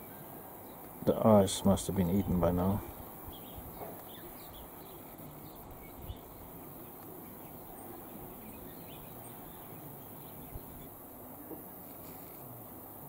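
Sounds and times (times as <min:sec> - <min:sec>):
background ambience: 0:00.0 - 0:13.0.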